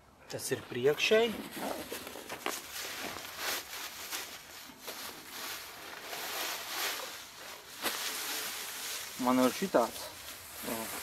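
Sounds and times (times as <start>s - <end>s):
fabric netting rustling: 1.1s - 11.0s.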